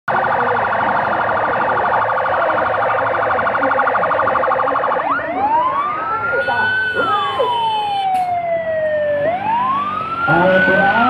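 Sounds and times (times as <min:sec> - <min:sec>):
electronic siren: 0:00.1 - 0:11.0.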